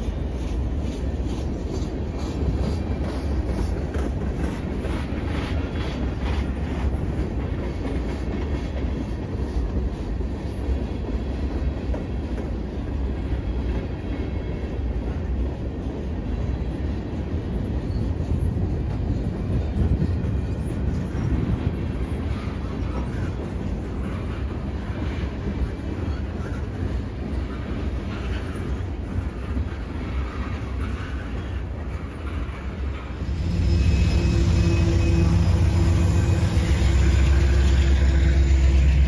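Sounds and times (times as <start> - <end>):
freight train wheels clattering: 0.0 - 39.0.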